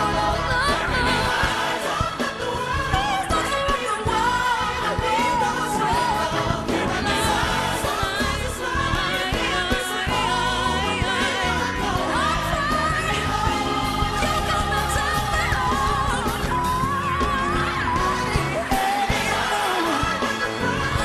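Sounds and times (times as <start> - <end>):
backing choir singing: 0.0 - 21.0
band playing: 0.0 - 21.0
woman singing gospel: 0.0 - 21.0.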